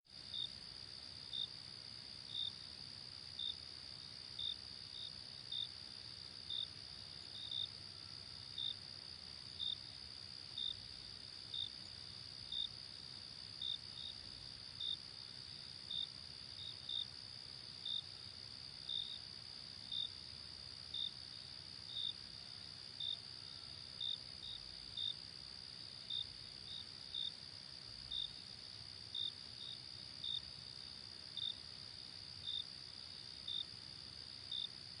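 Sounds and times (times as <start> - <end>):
crickets chirping: 0.2 - 35.0.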